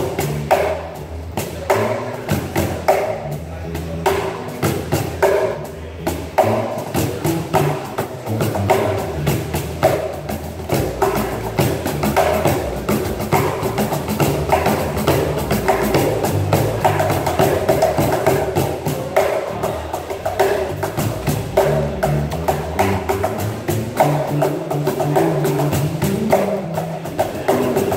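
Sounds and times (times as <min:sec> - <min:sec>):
cajon slaps and taps: 0:00.0 - 0:03.3, 0:04.0 - 0:27.9
plucked bass guitar notes: 0:00.0 - 0:27.9.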